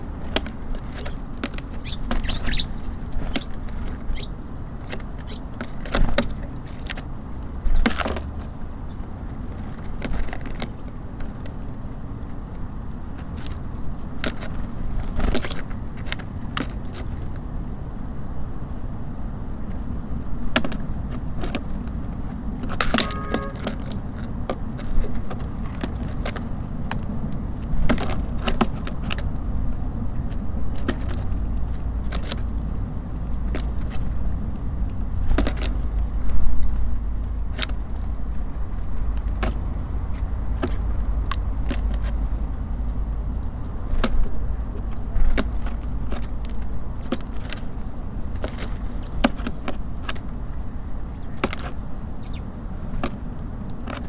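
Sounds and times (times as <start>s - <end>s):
birds pecking at a feeder: 0.0s - 54.0s
low rumble of city traffic: 0.0s - 54.0s.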